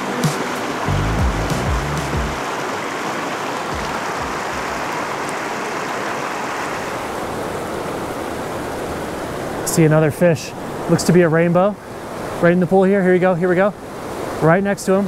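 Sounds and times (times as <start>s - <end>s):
rocky stream flowing: 1.8s - 14.8s.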